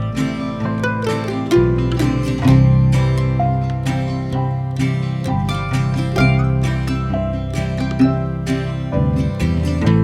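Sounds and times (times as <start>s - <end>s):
plucked string notes: 0.0s - 10.0s
steady bass: 0.0s - 10.0s.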